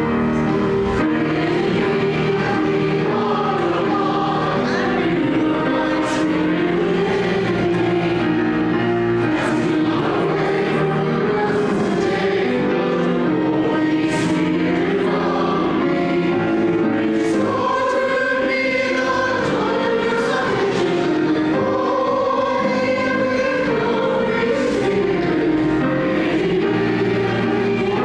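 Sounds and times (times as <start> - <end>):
congregation singing a hymn: 0.0 - 28.0.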